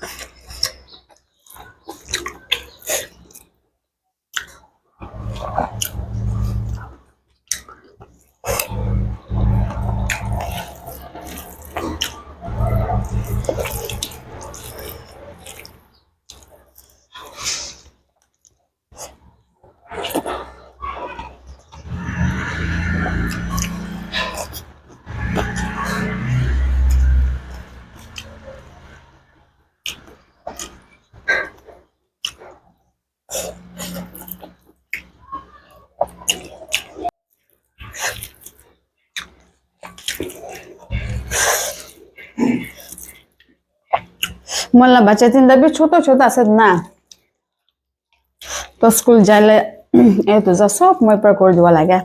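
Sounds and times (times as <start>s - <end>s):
person chewing wet food: 0.0s - 3.6s, 4.3s - 44.7s, 47.0s - 48.8s.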